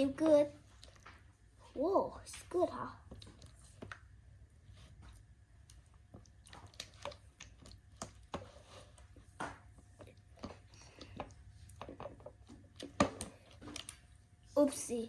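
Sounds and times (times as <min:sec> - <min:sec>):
slime squelching: 0:00.0 - 0:15.0.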